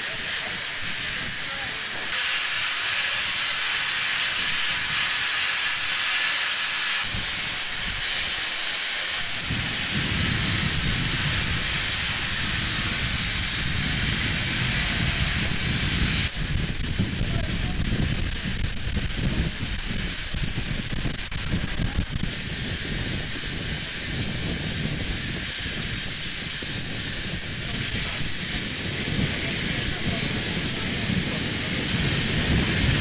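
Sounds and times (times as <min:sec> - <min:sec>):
angle grinder grinding steel pipe: 0:00.0 - 0:17.0, 0:18.1 - 0:33.0
loud hiss of industrial equipment: 0:00.0 - 0:33.0.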